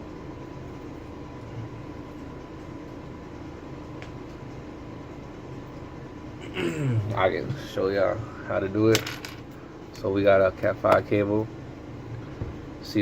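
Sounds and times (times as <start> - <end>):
background hum and hiss: 0.0 - 13.0
faint steady whine: 0.0 - 13.0.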